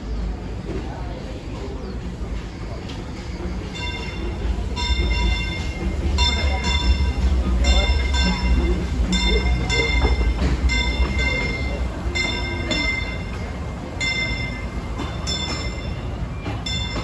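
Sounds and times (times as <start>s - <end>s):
steam train rumbling: 0.0s - 17.0s.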